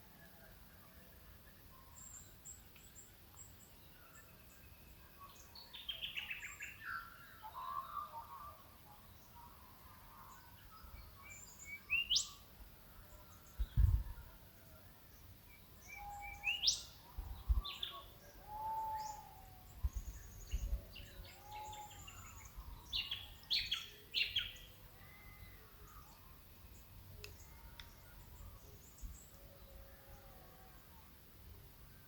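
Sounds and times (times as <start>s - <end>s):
wild birds chirping and trilling: 0.1s - 31.7s.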